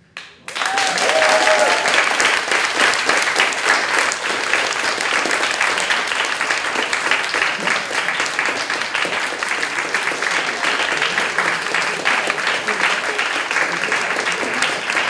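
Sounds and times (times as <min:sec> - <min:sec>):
audience applauding: 0:00.2 - 0:15.0.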